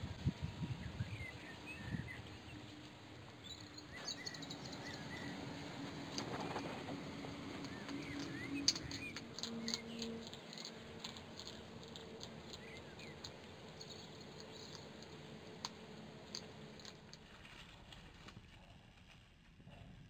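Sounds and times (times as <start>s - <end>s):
hedgehog crunching kibble: 2.4s - 19.9s.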